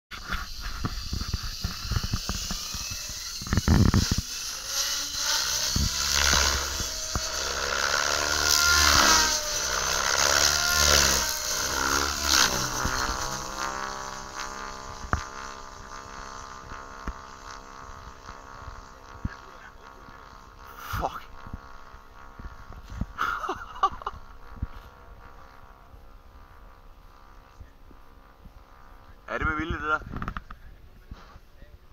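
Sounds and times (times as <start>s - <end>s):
model helicopter rotor whine: 0.1s - 31.9s.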